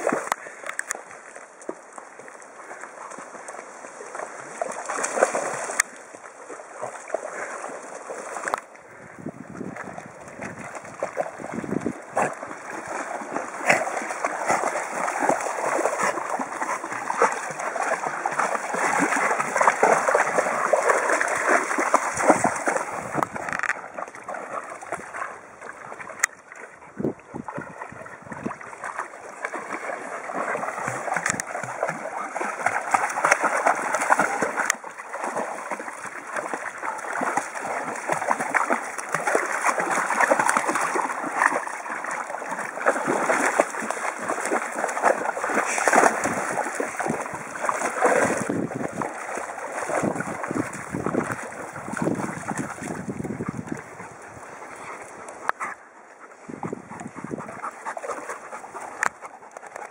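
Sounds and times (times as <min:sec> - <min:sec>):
sea water splashing: 0:00.0 - 0:59.9.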